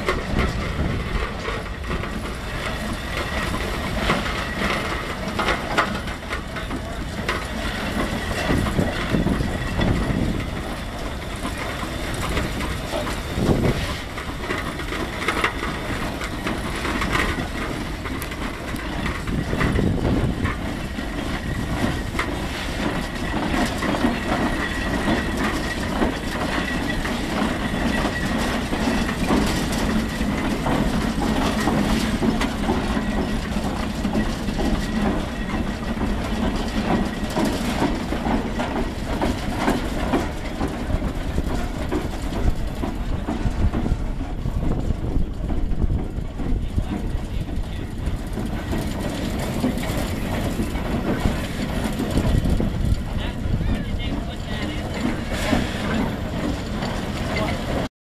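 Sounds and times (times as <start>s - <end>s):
steam traction engine clatter: 0.0s - 57.9s.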